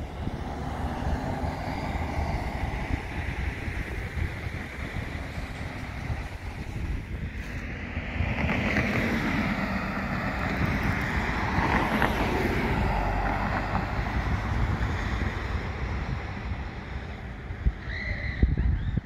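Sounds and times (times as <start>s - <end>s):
road traffic rushing: 0.0s - 19.0s
wind buffeting microphone: 0.0s - 19.0s.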